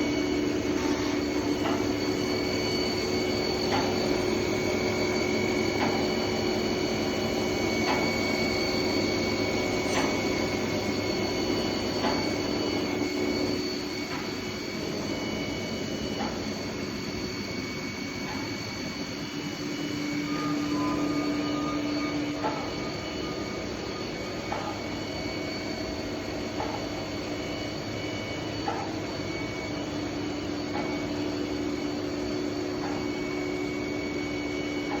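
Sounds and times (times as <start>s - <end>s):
constant whining tones: 0.0s - 35.0s
machining center running: 0.0s - 35.0s.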